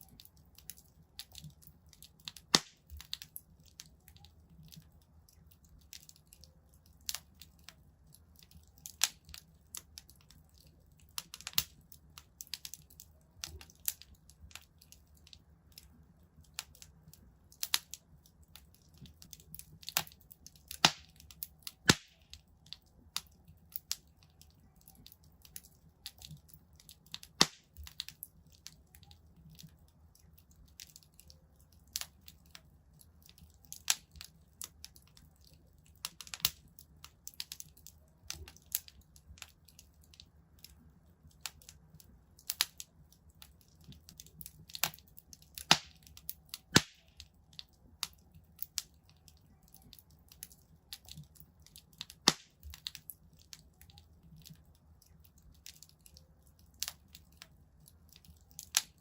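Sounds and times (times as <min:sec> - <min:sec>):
low rumble of flames: 0:00.0 - 0:59.0
wood fire crackling: 0:00.0 - 0:59.0.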